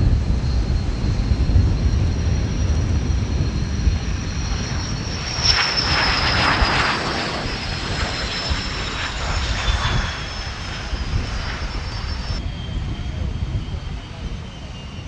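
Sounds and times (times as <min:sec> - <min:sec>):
rush of jet noise: 0:00.0 - 0:13.8
jet engines whining: 0:00.0 - 0:15.0
low jet rumble: 0:00.0 - 0:15.0.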